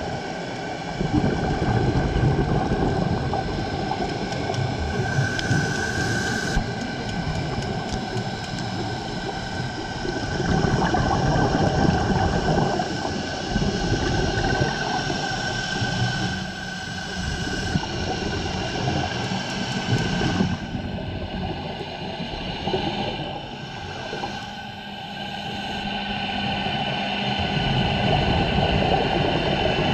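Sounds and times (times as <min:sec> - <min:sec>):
boat motor drone underwater: 0:00.0 - 0:29.9
rumbling rush of bubbles: 0:00.0 - 0:29.9.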